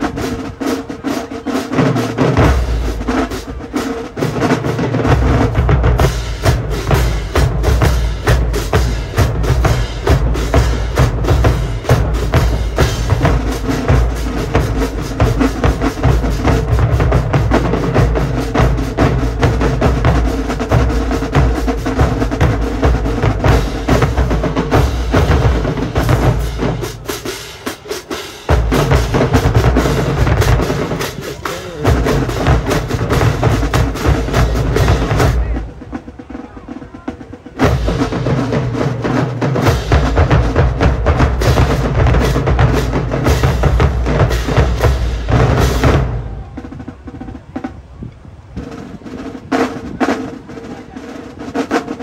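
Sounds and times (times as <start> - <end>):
marching drumline playing: 0.0 - 52.0.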